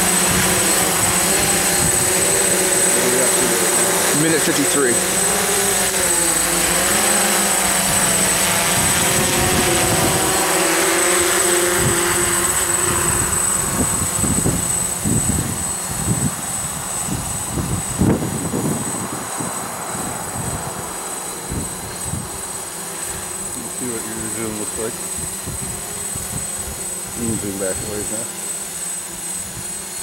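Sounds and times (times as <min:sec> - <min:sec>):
drone propellers buzzing: 0:00.0 - 0:30.0.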